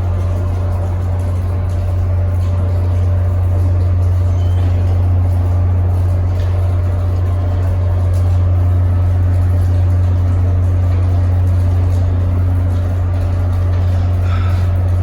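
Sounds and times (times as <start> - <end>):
locomotive idling hum: 0.0 - 15.0.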